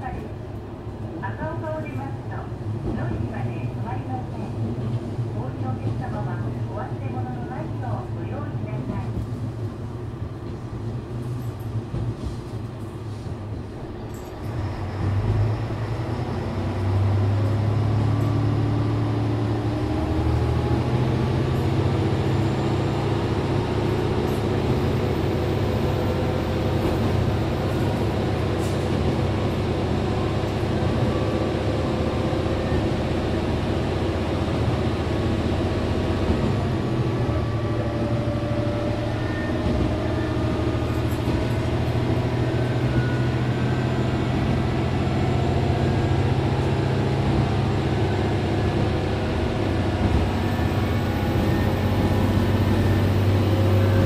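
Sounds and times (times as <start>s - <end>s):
diesel railcar engine running: 0.0s - 54.0s.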